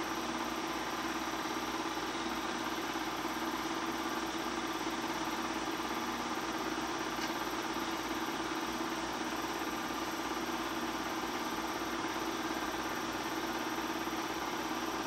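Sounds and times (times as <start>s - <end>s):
film projector running: 0.0s - 15.0s.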